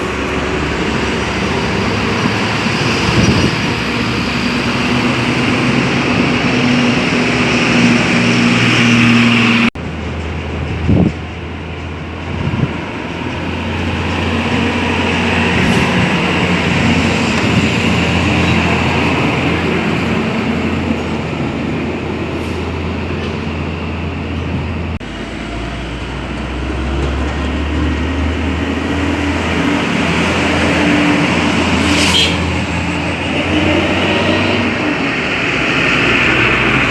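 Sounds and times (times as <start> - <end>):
road traffic noise: 0.0 - 36.9
truck diesel engines running: 0.0 - 36.9.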